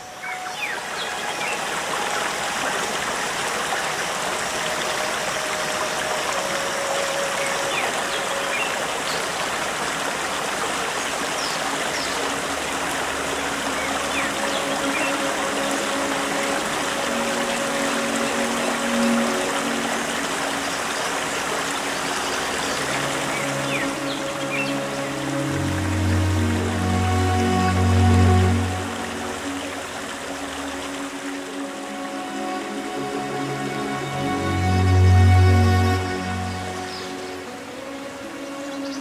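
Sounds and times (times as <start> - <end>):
stream running over rocks: 0.0 - 39.0.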